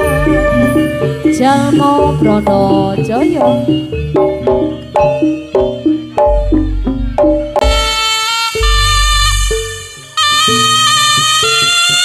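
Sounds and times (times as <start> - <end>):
sliding melodic line: 0.0 - 11.7
gamelan music: 0.0 - 12.0.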